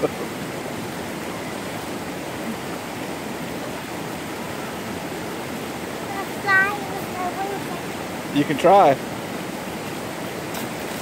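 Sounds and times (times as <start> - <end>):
creek spilling over rocks: 0.0 - 11.0.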